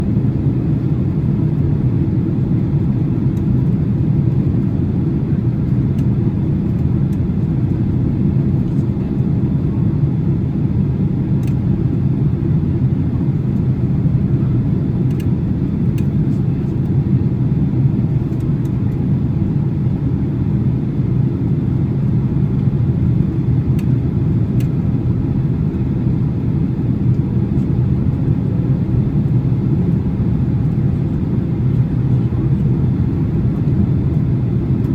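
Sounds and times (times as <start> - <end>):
low rumble of engines and airflow: 0.0 - 34.9.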